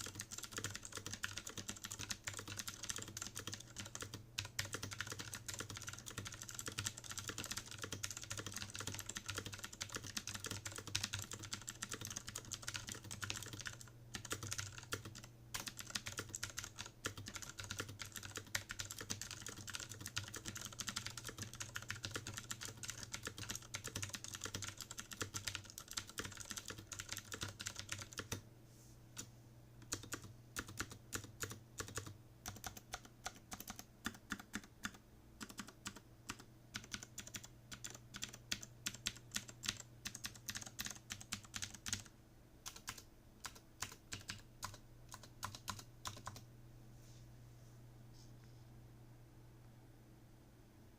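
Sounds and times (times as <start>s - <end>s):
fast typing on mechanical keyboard: 0.0s - 28.4s, 29.8s - 42.1s, 42.7s - 46.4s.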